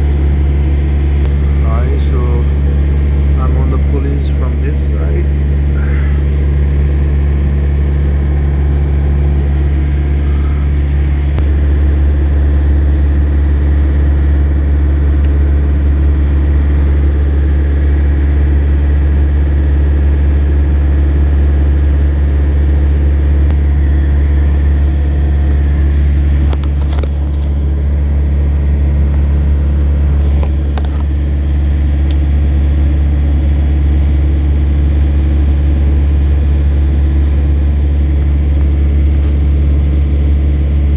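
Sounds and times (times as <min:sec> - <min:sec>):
large engine idling: 0:00.0 - 0:40.9.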